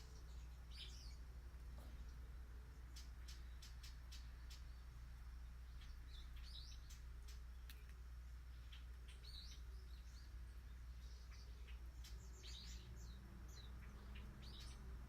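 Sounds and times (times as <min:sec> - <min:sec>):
bird chirps: 0:00.0 - 0:15.0
low steady hum: 0:00.0 - 0:15.0.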